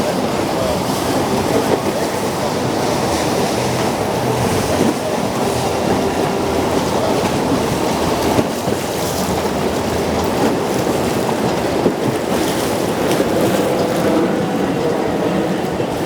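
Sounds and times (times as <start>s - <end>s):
water rushing past boat: 0.0s - 16.0s
wind buffeting microphone: 0.0s - 16.0s.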